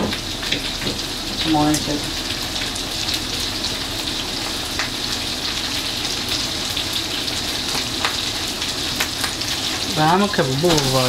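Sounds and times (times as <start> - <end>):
pork frying in hot oil: 0.0 - 11.0.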